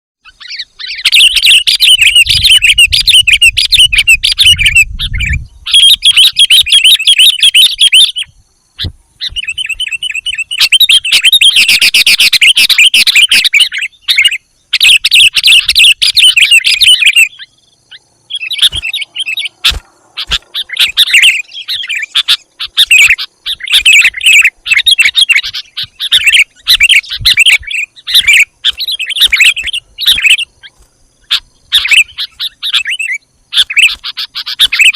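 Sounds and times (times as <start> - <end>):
birds chattering calls: 0.2 - 34.9.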